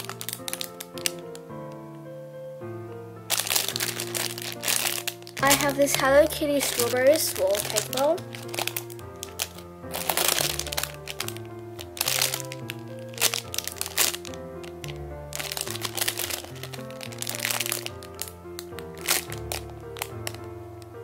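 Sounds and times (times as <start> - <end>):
plastic packaging crinkling: 0.0 - 1.8, 3.3 - 21.0
background music: 0.0 - 21.0.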